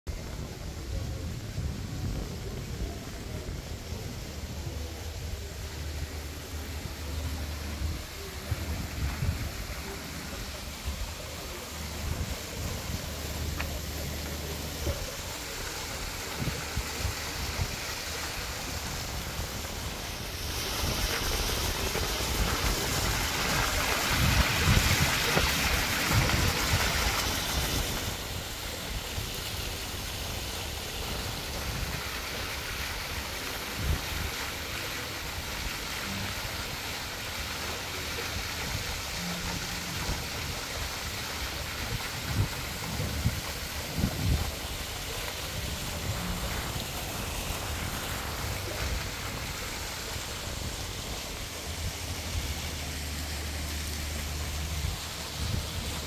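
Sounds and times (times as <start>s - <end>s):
wind on microphone: 0.1s - 34.8s, 38.4s - 56.0s
fountain water splashing: 0.1s - 56.0s.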